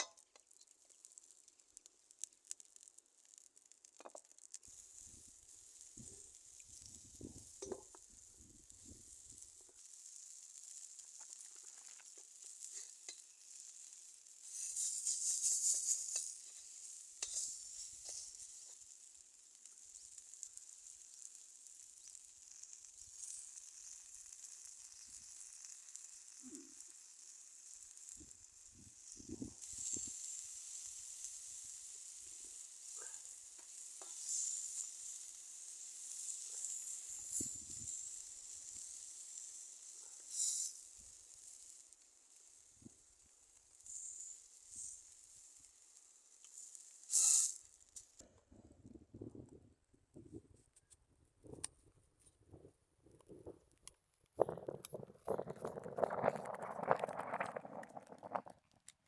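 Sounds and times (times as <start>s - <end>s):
food sizzling in a pan: 0.0s - 48.2s.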